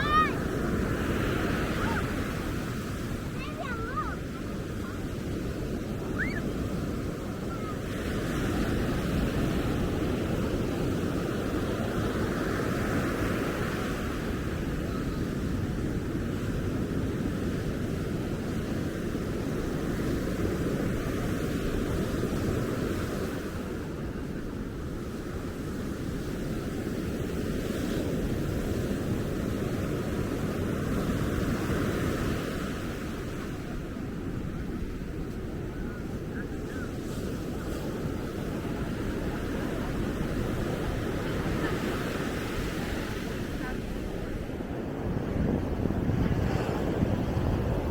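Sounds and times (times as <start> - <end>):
surf breaking on a beach: 0.0 - 47.9
wind rumble on microphone: 0.0 - 47.9.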